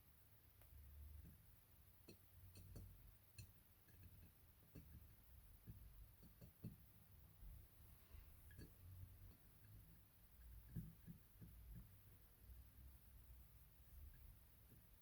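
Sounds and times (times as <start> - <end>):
clay being shaped by hand: 0.6 - 15.0.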